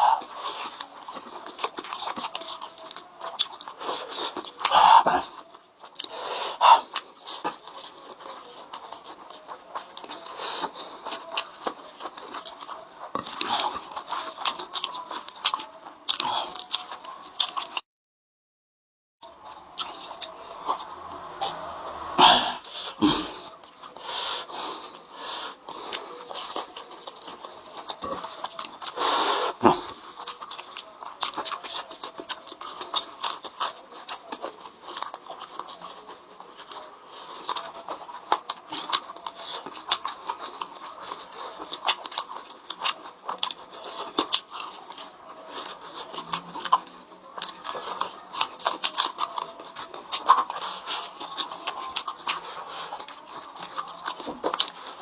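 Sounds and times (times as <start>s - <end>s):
person chewing and crunching: 0.0s - 17.8s, 19.2s - 55.0s.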